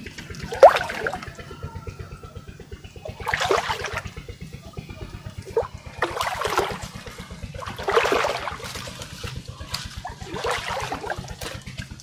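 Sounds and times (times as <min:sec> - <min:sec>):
low steady throb: 0:00.0 - 0:12.0
pond water splashing: 0:00.0 - 0:12.0.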